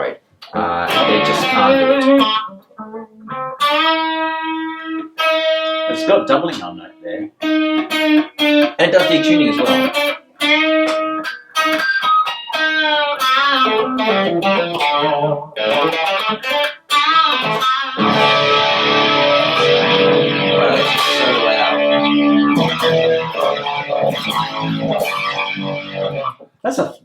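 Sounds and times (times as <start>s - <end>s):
electric guitar with doubling effect: 0.4s - 26.6s.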